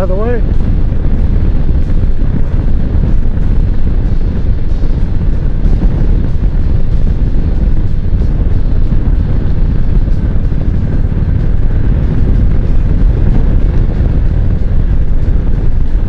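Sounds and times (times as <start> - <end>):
motorcycle engine running: 0.0 - 16.0
wind on microphone: 0.0 - 16.0.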